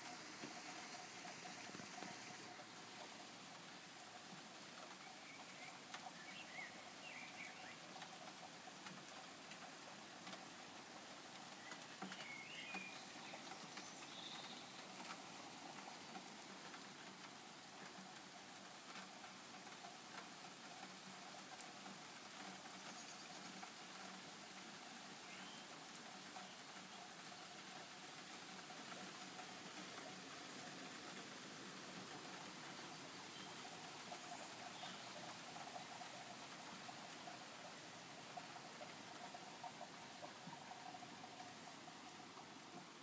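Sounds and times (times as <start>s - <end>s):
light rain falling: 0.0s - 43.0s
raindrops ticking on balcony: 0.0s - 43.0s.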